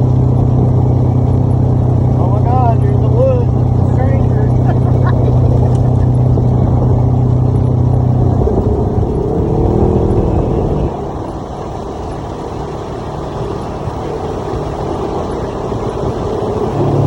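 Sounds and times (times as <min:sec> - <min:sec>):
utility vehicle engine driving: 0:00.0 - 0:17.0.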